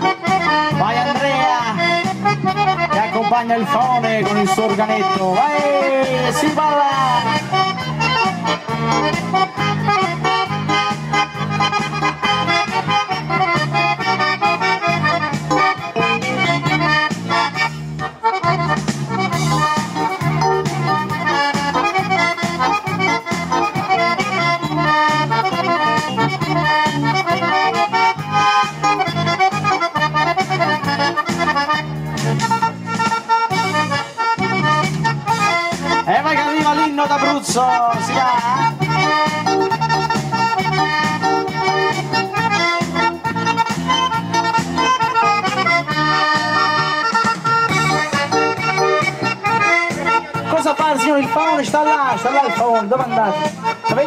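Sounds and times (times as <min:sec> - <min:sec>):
button accordion dance tune: 0:00.0 - 0:54.0
pulsing bass beat: 0:00.2 - 0:46.9.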